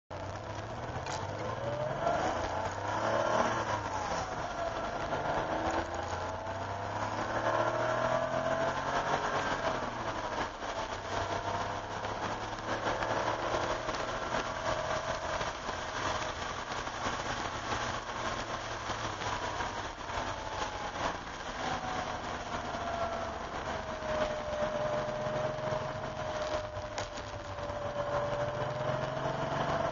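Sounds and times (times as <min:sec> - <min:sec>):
car engine accelerating: 0:00.1 - 0:29.9
wet tyres hissing: 0:00.2 - 0:29.9.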